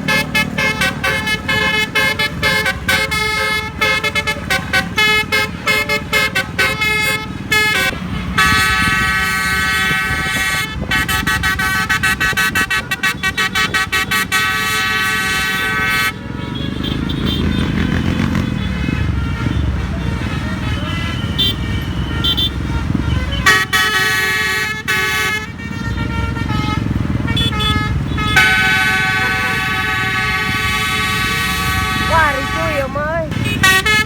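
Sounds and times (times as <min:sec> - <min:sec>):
bus air horn tune: 0:00.0 - 0:34.0.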